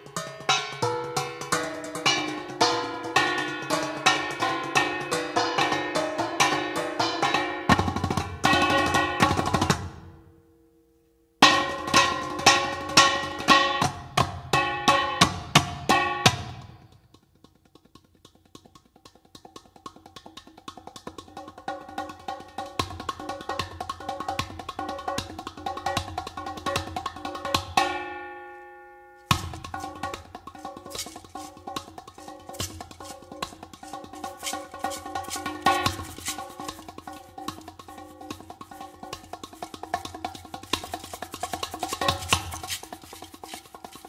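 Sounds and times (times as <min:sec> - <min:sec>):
percussive music with drums: 0:00.0 - 0:10.2, 0:11.4 - 0:28.3, 0:29.2 - 0:44.0.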